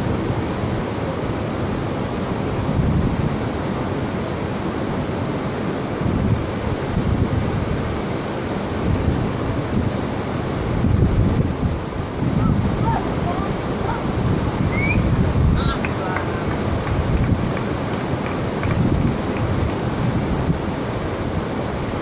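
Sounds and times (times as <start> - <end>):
surf rushing: 0.0 - 22.0
wind on microphone: 0.0 - 22.0.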